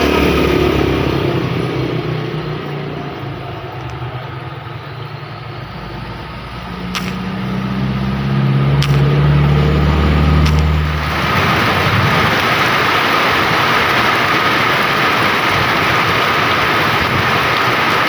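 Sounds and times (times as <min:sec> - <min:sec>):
heavy rain hissing: 0:00.0 - 0:18.0
vehicle engine running: 0:00.0 - 0:18.0.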